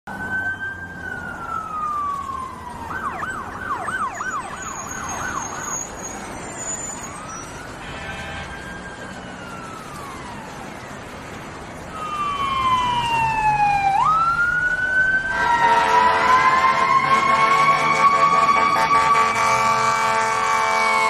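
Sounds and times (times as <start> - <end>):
emergency vehicle siren: 0.1 - 21.0.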